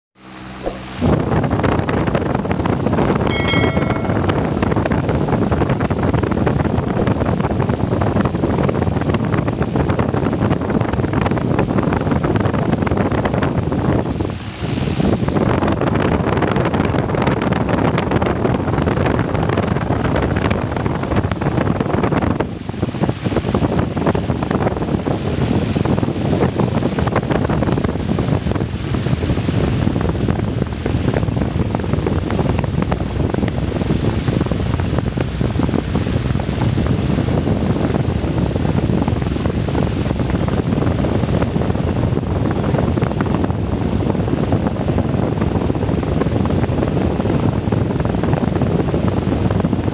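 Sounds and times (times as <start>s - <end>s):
loud rushing wind or surf: 1.0s - 49.9s.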